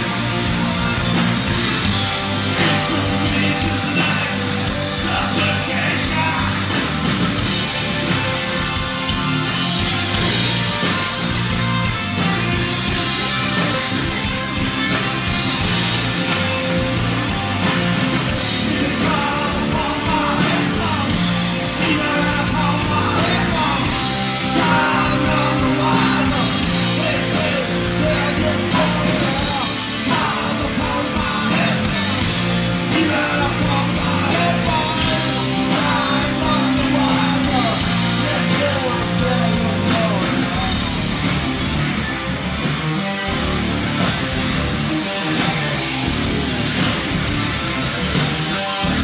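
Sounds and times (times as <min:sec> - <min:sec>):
bending lead guitar line: 0:00.0 - 0:49.0
live rock band playing: 0:00.0 - 0:49.0.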